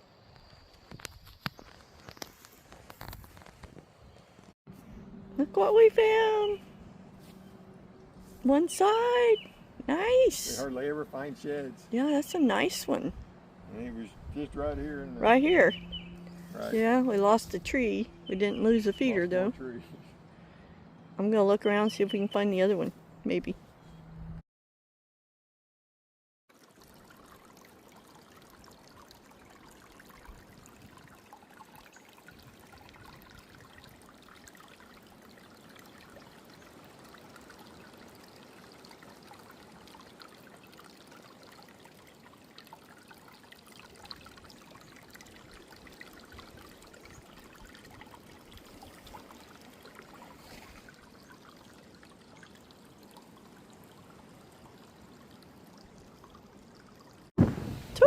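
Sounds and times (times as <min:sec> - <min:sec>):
trickling stream: 0:00.0 - 0:23.9, 0:26.5 - 0:58.0.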